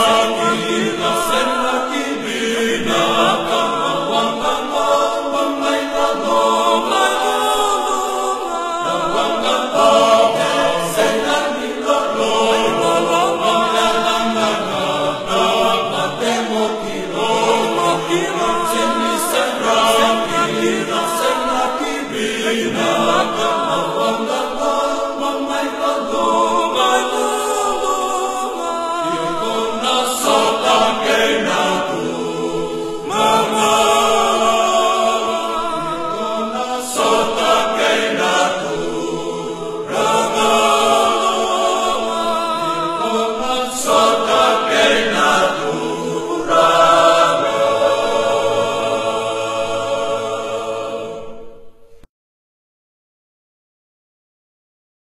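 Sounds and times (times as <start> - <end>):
choir singing in harmony: 0.0 - 52.1.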